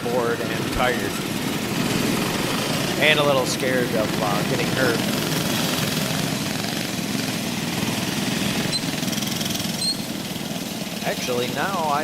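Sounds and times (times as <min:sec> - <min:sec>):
go-kart engines running: 0:00.0 - 0:12.0.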